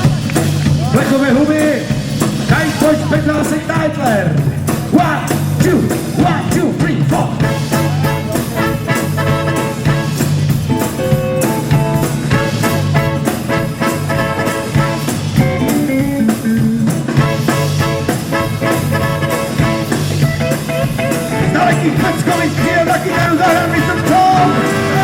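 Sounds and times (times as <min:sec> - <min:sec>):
rock and roll band playing: 0:00.0 - 0:25.0.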